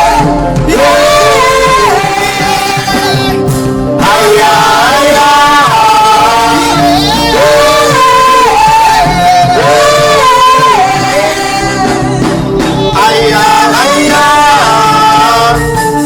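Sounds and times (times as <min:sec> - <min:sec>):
instrumental backing: 0:00.0 - 0:16.0
worship team singing: 0:00.0 - 0:16.0.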